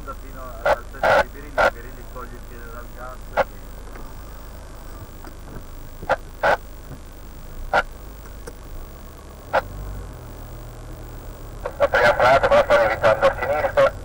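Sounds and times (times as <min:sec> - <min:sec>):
low hum inside car: 0:00.0 - 0:14.0.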